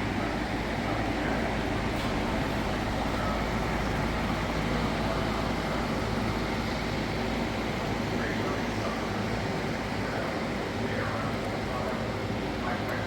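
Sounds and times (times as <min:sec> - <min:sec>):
ventilation fan running: 0:00.0 - 0:13.0.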